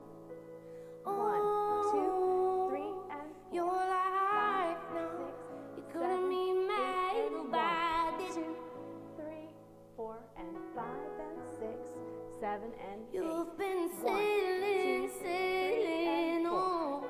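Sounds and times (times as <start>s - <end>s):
woman singing with vibrato: 1.0s - 17.0s.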